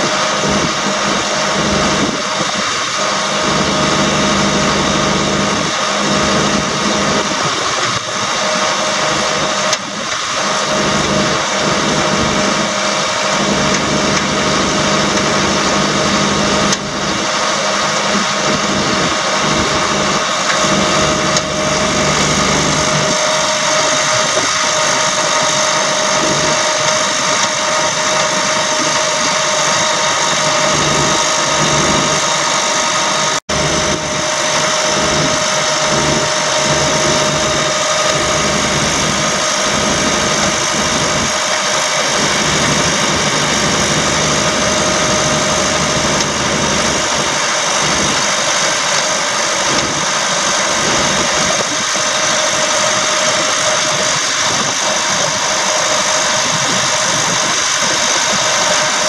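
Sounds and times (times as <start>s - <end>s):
diesel engine running: 0.0s - 59.0s
steady high whine: 0.0s - 59.0s.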